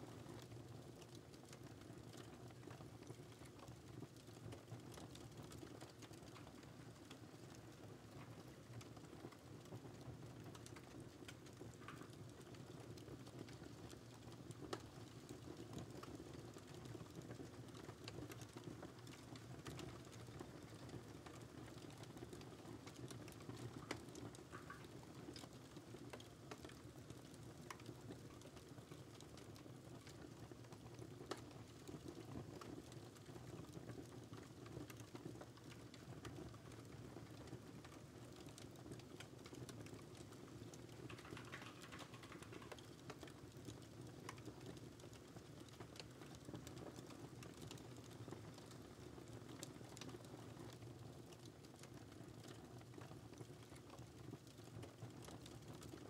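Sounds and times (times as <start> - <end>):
fireplace crackling: 0.0 - 56.0
faint keyboard typing: 2.2 - 56.0.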